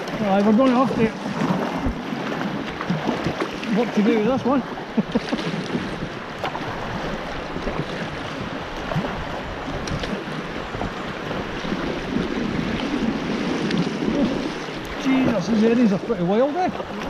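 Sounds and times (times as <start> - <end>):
fast-flowing river water: 0.0 - 17.0
wind on microphone: 0.0 - 17.0.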